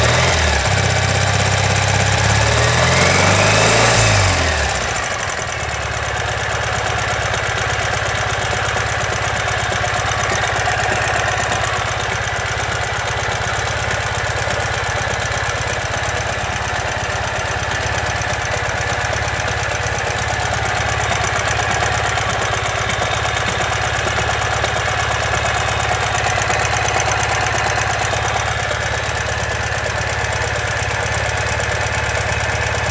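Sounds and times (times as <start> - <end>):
motorcycle engine idling with knocking: 0.0 - 32.9.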